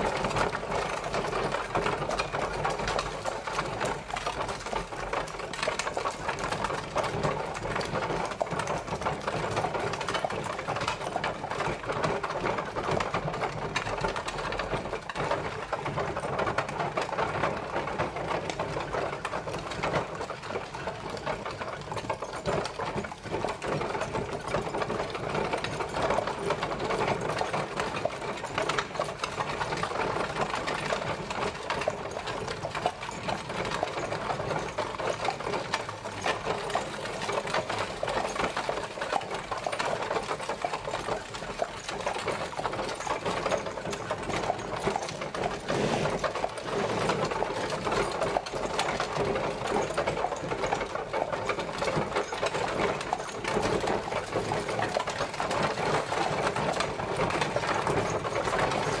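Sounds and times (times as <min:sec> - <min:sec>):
carriage wheels rattling: 0:00.0 - 0:59.0.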